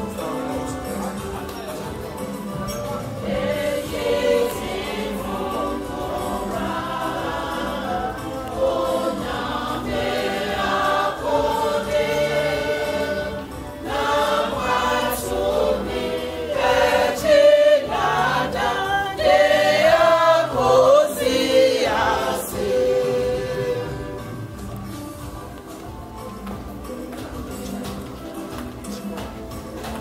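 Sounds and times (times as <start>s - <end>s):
church choir singing: 0.0s - 25.4s.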